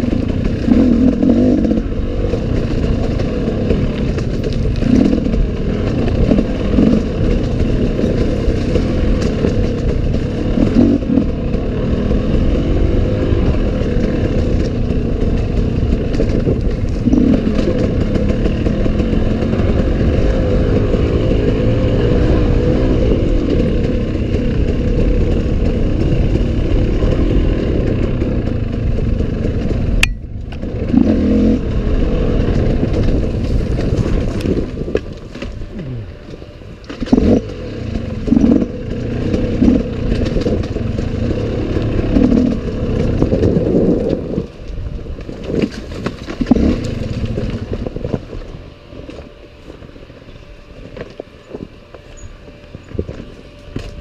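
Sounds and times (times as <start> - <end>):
dirt bike engine revving: 0.0 - 48.2.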